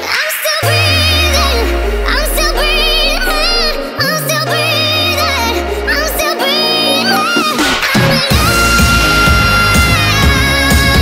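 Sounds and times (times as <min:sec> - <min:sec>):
background music: 0:00.0 - 0:11.0
person singing: 0:00.0 - 0:11.0.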